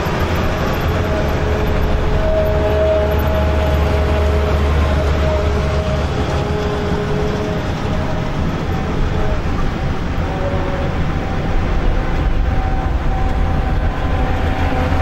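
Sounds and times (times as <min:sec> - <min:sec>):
combine harvester engine drone: 0:00.0 - 0:15.0
mechanical whine: 0:00.0 - 0:15.0.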